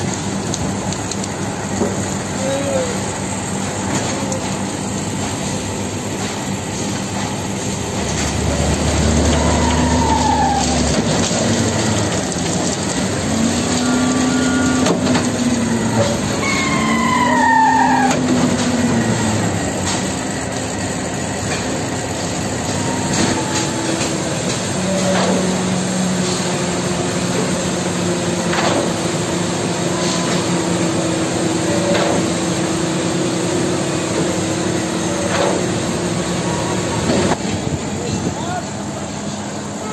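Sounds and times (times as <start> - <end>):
diesel and hydraulic drone: 0.0 - 39.9.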